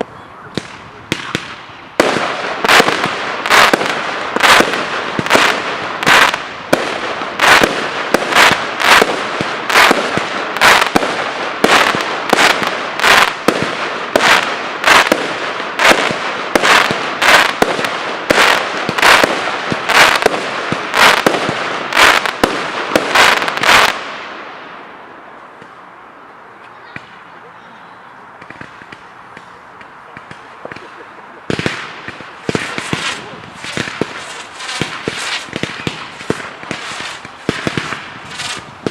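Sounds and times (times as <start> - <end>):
fireworks bangs: 0.0 - 25.8, 28.3 - 38.9
fireworks crackling: 0.0 - 38.9.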